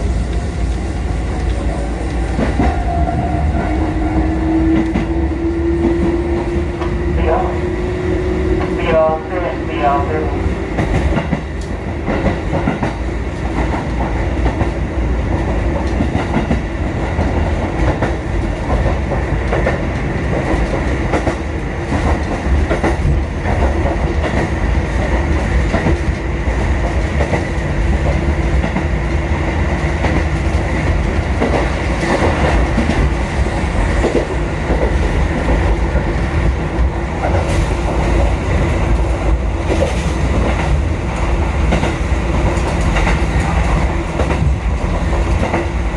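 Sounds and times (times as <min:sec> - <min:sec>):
electric train rumbling: 0:00.0 - 0:45.9.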